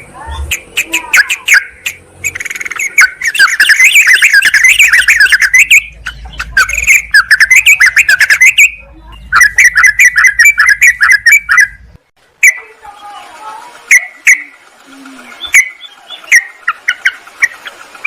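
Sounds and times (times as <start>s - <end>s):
bird chattering calls: 0.0s - 18.0s.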